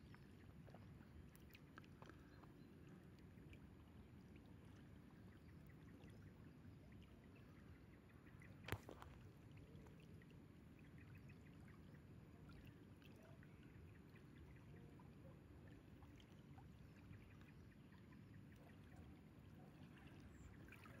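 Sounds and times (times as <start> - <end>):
faint low outdoor rumble: 0.0 - 21.0.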